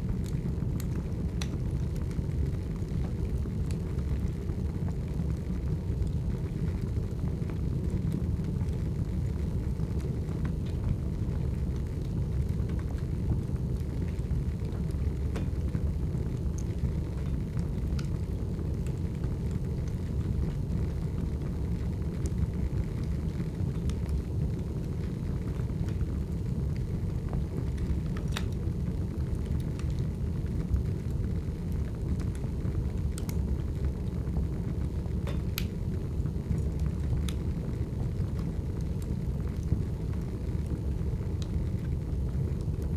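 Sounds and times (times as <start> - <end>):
fire crackling: 0.0 - 42.9
fire low rumble: 0.0 - 42.9.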